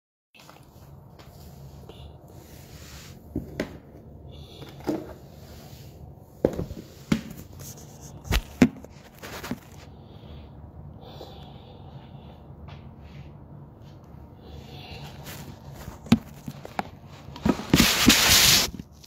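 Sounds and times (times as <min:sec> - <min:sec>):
low steady hum: 0:00.4 - 0:17.7.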